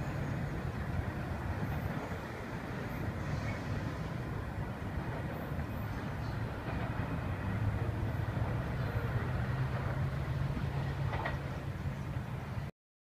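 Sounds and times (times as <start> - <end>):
freight train rumbling: 0.0 - 12.7.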